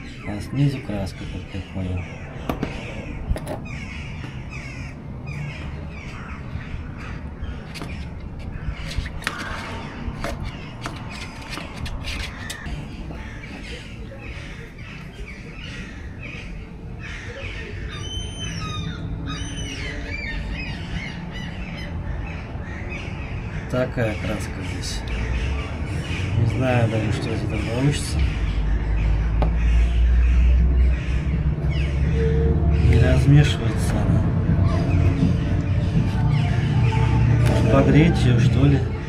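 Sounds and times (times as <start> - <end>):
birds calling: 0.0 - 39.0.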